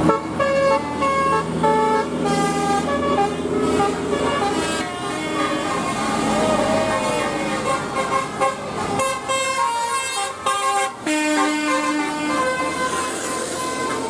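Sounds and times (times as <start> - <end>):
multi-tone air horn melody: 0.0 - 14.0.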